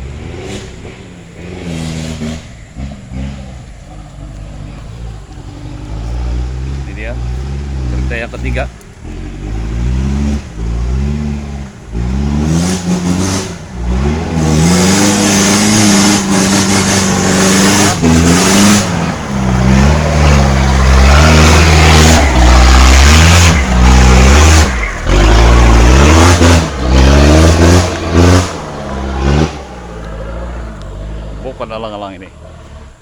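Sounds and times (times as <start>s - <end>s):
car engine revving hard: 0.0s - 33.0s.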